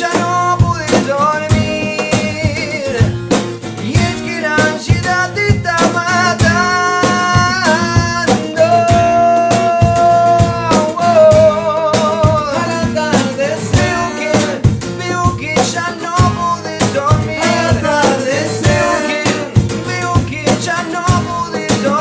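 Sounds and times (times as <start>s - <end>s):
drum beat: 0.0s - 22.0s
guitar: 0.0s - 22.0s.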